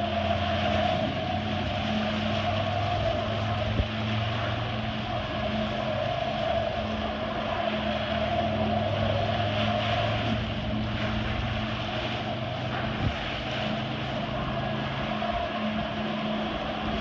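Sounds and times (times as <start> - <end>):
water spray hiss: 0.0 - 17.0
watercraft engine drone: 0.0 - 17.0.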